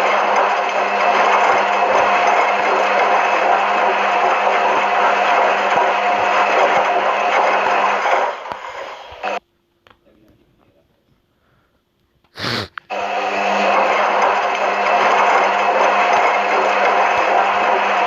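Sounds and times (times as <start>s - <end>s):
washing machine whirring: 0.0s - 9.4s, 12.9s - 18.0s.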